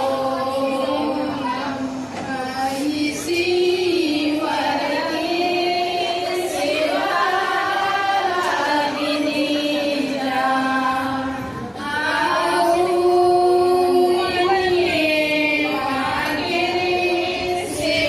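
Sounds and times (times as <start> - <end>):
women singing in unison: 0.0 - 18.0.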